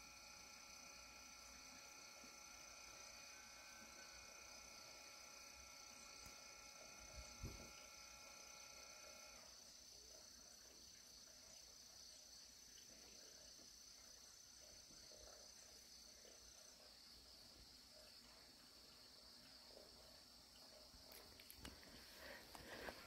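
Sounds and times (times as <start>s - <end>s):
faint steady hum: 0.0s - 23.0s
high-pitched insect drone: 0.0s - 23.0s.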